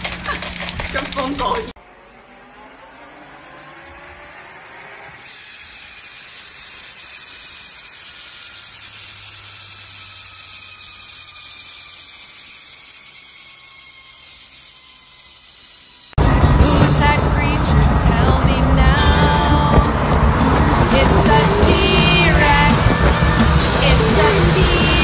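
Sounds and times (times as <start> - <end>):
bicycle wheel spinning whir: 0.0 - 25.0.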